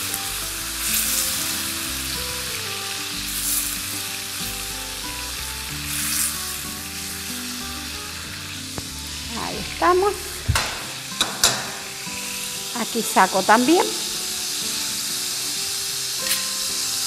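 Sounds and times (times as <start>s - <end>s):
beef sizzling in hot oil: 0.0s - 17.0s.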